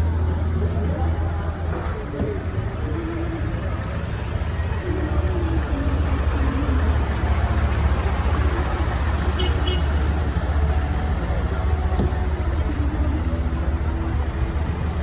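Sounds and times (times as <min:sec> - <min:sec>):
road and traffic noise: 0:00.0 - 0:15.0
vehicle engine rumbling: 0:00.0 - 0:15.0.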